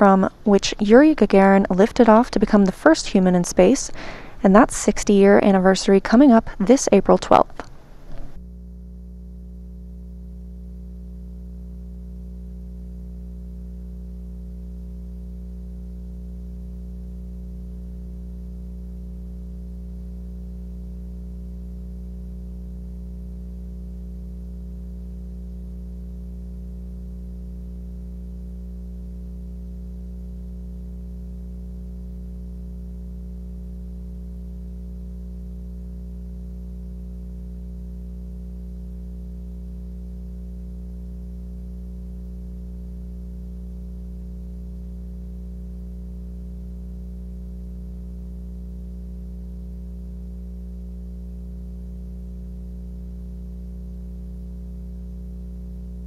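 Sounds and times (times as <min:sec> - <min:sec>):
electrical hum and buzz: 0:00.0 - 0:56.0.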